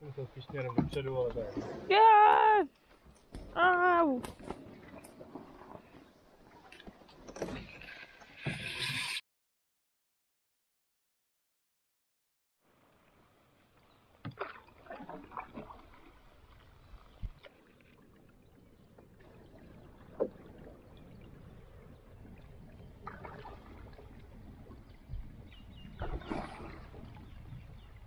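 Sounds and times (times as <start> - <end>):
paddle splashing in water: 0.3 - 9.0, 13.7 - 28.0.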